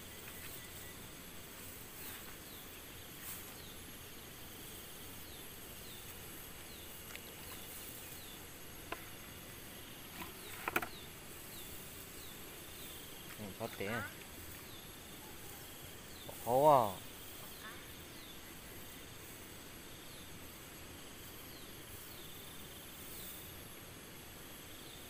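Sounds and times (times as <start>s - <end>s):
grass rustling: 0.0s - 25.0s
insect chirping: 0.0s - 25.0s
steady hiss: 0.0s - 25.0s.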